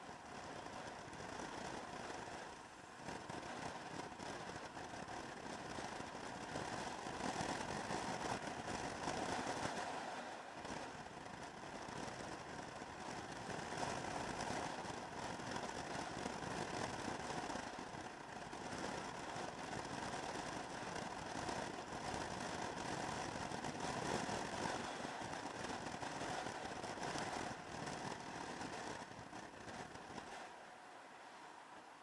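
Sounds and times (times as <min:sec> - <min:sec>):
scooter engine running: 0:00.0 - 0:30.3
road and air rush: 0:00.2 - 0:32.0.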